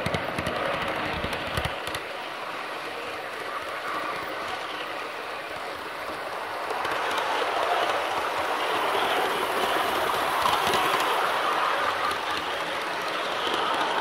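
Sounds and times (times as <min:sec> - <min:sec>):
model train wheels rolling: 0:00.0 - 0:14.0.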